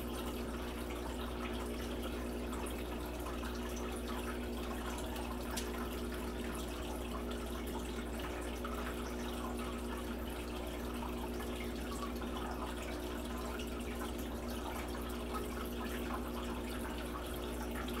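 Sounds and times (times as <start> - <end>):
faint dripping crackle: 0.0 - 18.0
water trickling: 0.0 - 18.0.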